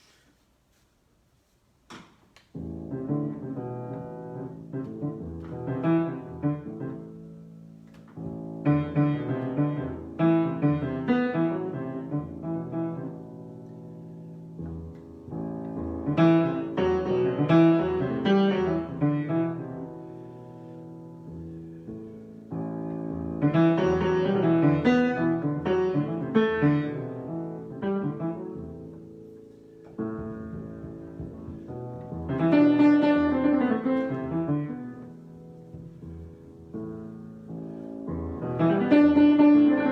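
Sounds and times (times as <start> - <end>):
piano chords and melody: 2.5 - 39.9.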